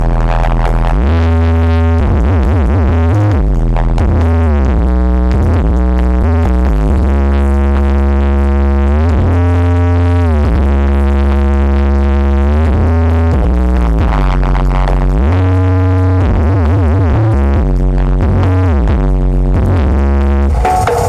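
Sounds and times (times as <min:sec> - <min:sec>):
electronic dance music: 0:00.0 - 0:21.0.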